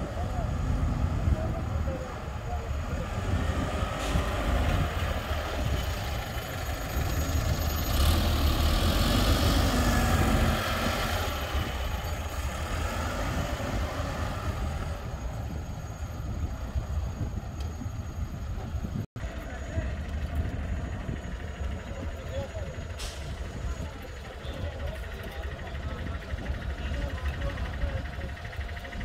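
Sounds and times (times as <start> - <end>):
road roller diesel engine: 0.0 - 29.0.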